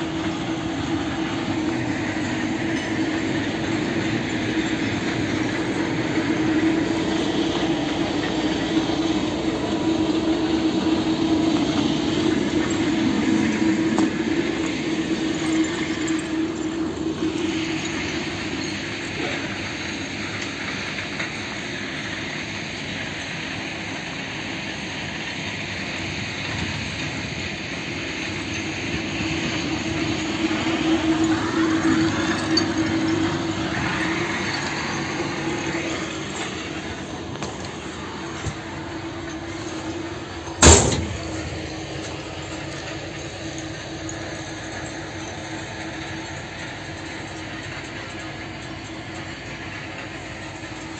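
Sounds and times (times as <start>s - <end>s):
machinery humming: 0.0s - 50.9s.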